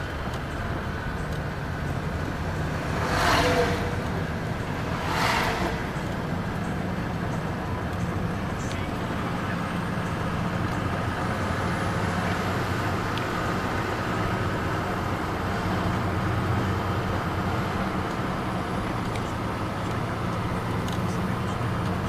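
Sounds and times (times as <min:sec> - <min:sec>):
car engine from inside cabin: 0:00.0 - 0:22.0.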